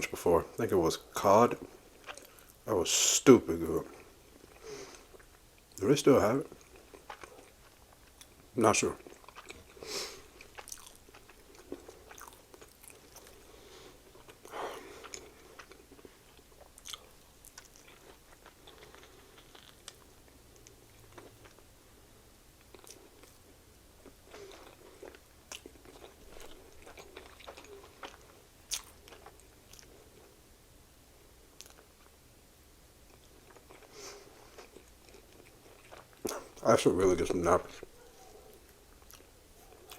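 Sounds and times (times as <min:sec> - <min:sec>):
wet chewing and smacking: 0:01.5 - 0:02.6, 0:03.8 - 0:21.7, 0:22.6 - 0:30.4, 0:31.6 - 0:32.2, 0:33.1 - 0:39.9.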